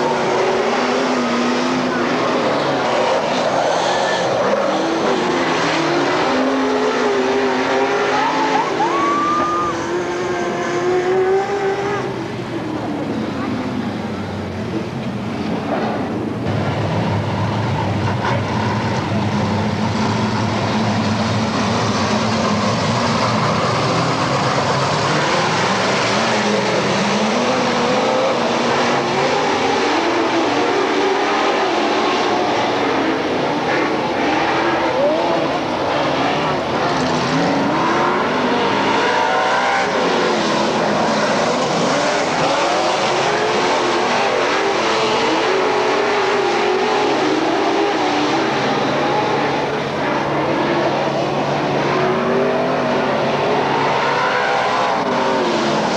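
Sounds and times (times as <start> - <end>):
race car engines roaring: 0.0 - 55.9.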